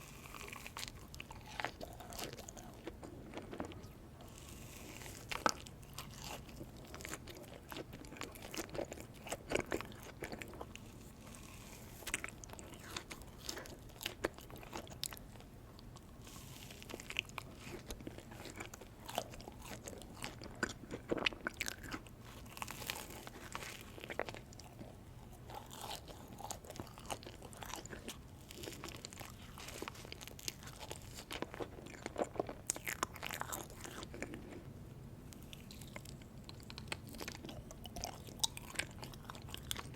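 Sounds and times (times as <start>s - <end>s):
person chewing ice cream: 0.0s - 39.9s.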